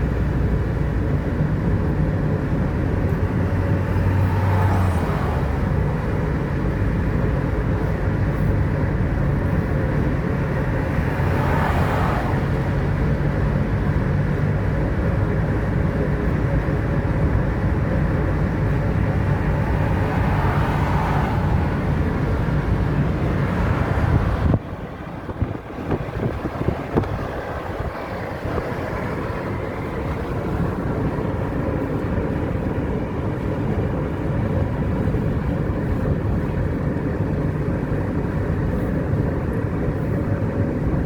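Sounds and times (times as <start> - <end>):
noisy rumble: 0.0 - 41.0
vehicle engine droning: 0.0 - 41.0.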